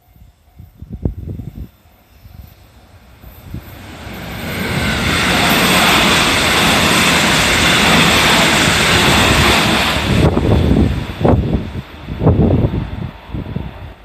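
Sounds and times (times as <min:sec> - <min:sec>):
train wheels rushing on rail: 0:00.0 - 0:14.0
wind buffeting microphone: 0:00.2 - 0:14.0.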